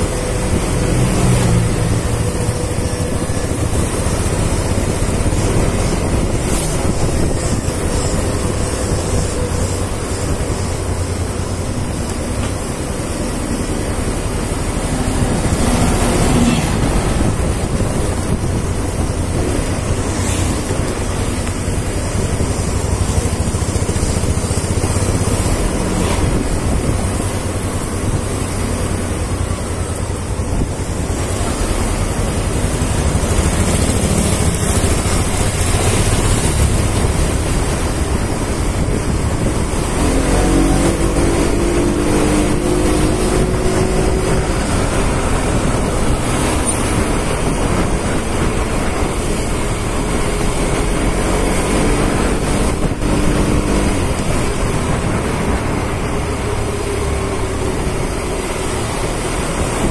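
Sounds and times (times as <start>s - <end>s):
scooter engine running: 0.0s - 59.9s
wind rushing over microphone: 0.0s - 59.9s.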